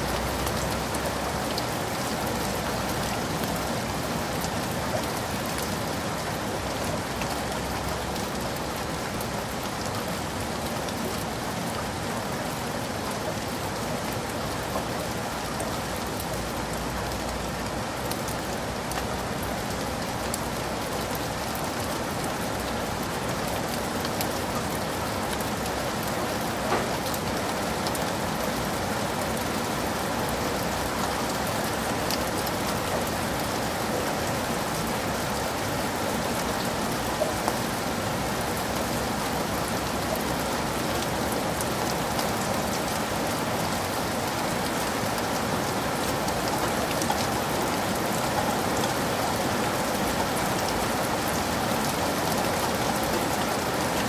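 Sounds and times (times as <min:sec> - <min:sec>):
heavy rain falling: 0:00.0 - 0:54.0
raindrops ticking on leaves: 0:00.0 - 0:54.0.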